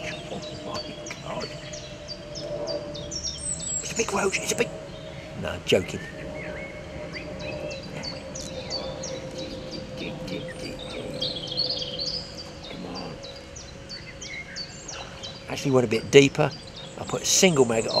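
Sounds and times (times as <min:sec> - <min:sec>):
small birds chirping: 0:00.0 - 0:18.0
steady low hum: 0:00.0 - 0:18.0.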